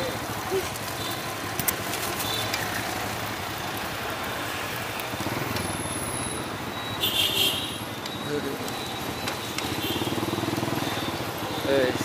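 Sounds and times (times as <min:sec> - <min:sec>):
motorbike engines passing: 0:00.0 - 0:12.0.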